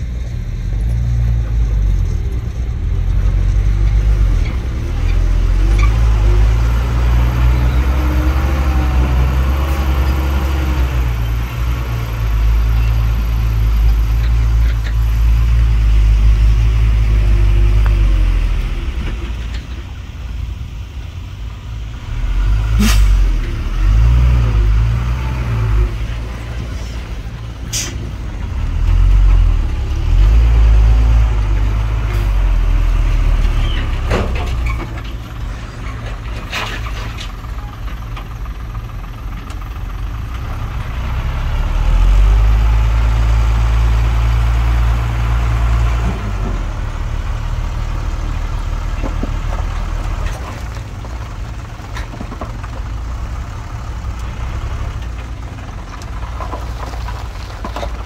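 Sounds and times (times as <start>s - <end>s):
heavy machine diesel engines droning: 0.0s - 58.0s.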